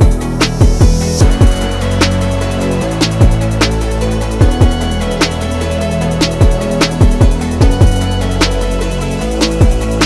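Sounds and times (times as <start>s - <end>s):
electronic music with a beat: 0.0s - 10.0s.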